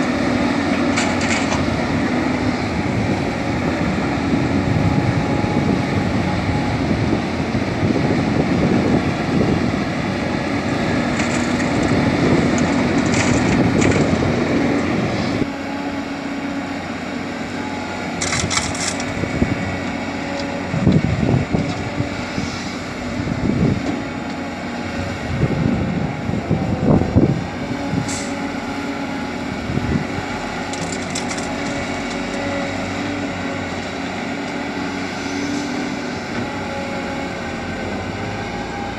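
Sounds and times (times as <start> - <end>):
excavator clunking and scraping soil: 0.0 - 38.9
excavator diesel engine running: 0.0 - 38.9.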